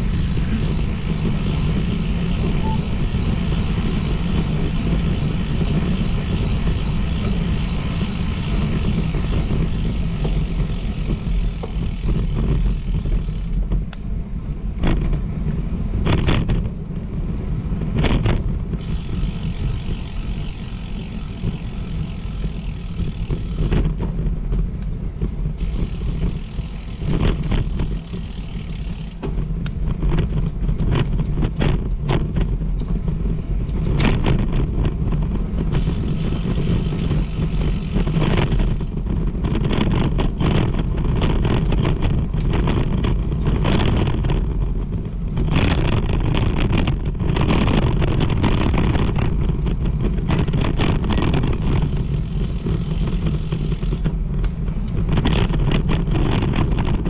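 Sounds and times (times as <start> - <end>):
tyre noise: 0.0 - 16.8, 17.5 - 57.0
wind buffeting: 0.0 - 57.0.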